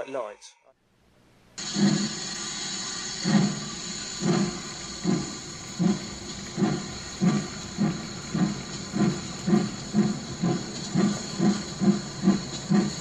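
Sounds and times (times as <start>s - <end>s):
steady steam hiss: 1.6s - 13.0s
steam locomotive chuffing: 1.6s - 13.0s.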